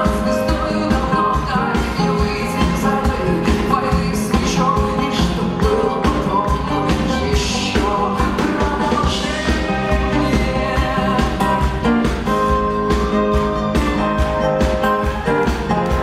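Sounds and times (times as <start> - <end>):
drums: 0.0 - 16.0
live rock band playing: 0.0 - 16.0
person singing: 0.0 - 16.0.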